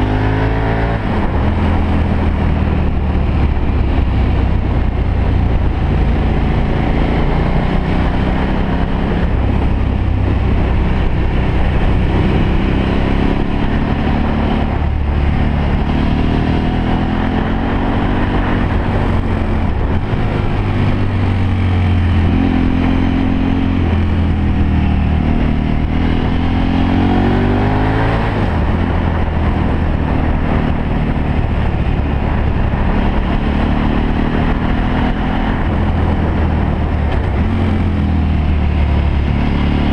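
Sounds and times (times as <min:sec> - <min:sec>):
motorcycle engine revving: 0:00.0 - 0:39.9
steady rushing noise: 0:00.0 - 0:39.9.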